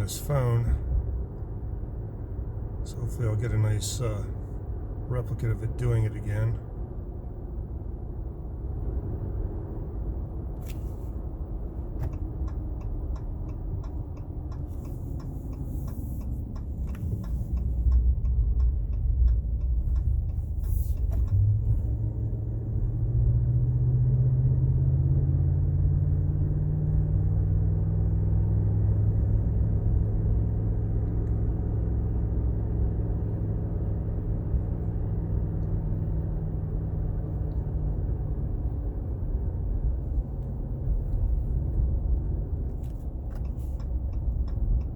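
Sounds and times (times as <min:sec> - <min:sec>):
engine and road drone: 0:00.0 - 0:44.9.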